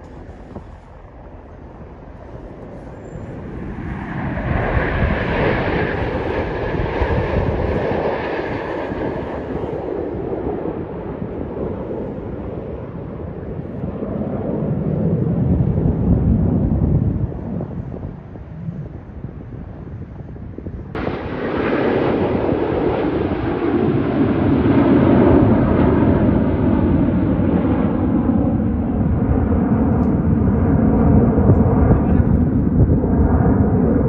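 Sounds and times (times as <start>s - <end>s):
deep jet rumble: 0.0s - 34.0s
jet roar with whine: 0.0s - 34.0s.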